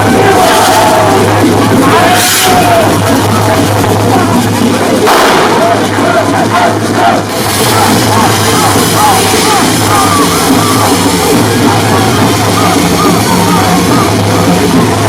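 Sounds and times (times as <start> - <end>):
loud music with drums: 0.0 - 15.0
voices shouting: 0.0 - 15.0.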